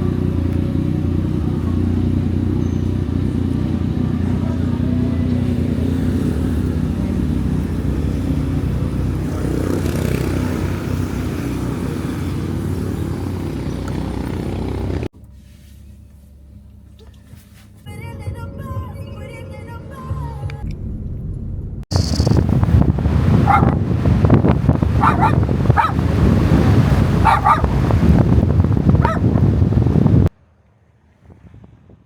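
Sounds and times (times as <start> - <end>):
vehicle engine droning: 0.0 - 30.3.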